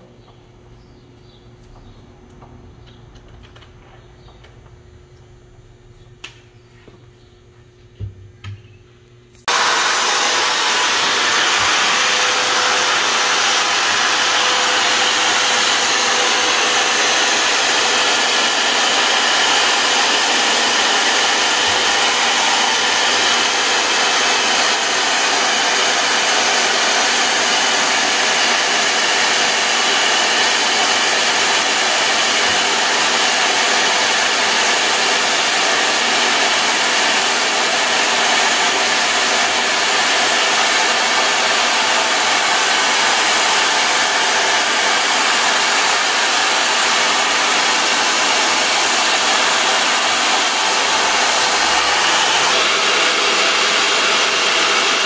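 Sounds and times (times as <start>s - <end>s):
electric drill running: 9.4s - 55.0s.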